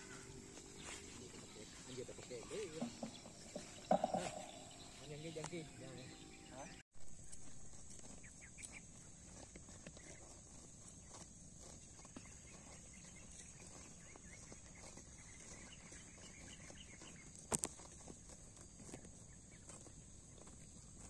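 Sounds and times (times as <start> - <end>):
cattle chewing grass: 0.0 - 5.4, 7.0 - 21.0.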